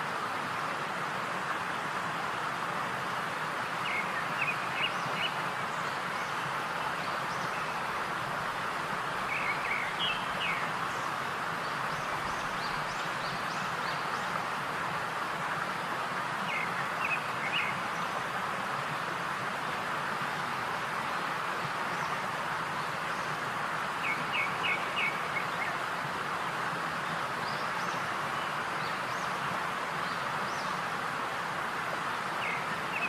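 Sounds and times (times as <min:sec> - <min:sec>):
steady hissing noise: 0:00.0 - 0:33.0.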